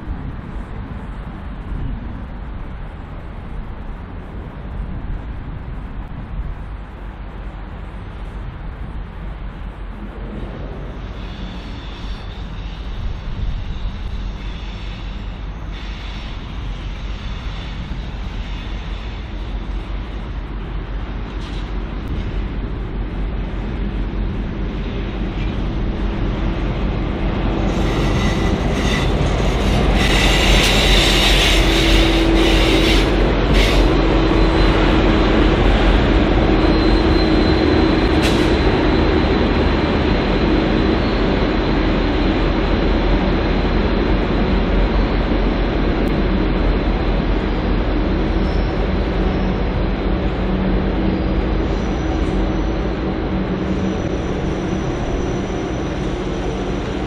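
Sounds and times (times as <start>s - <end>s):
diesel locomotive engine drone: 0.0s - 57.0s
train wheels on rails: 0.0s - 57.0s.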